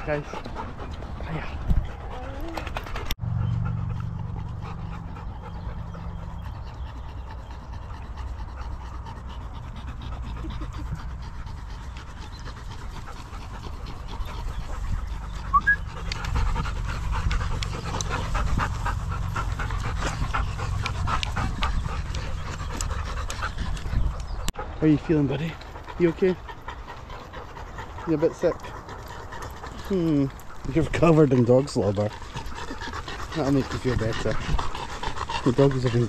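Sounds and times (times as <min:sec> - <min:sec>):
dogs panting: 0:00.0 - 0:36.0.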